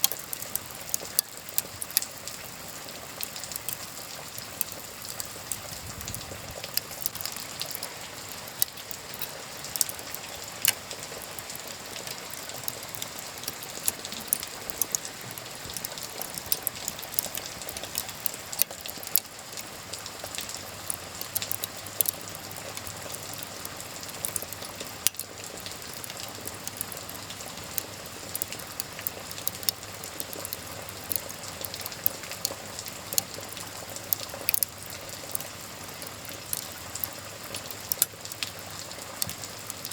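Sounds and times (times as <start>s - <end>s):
rain falling: 0.0s - 39.9s
wood fire crackling: 0.0s - 39.9s.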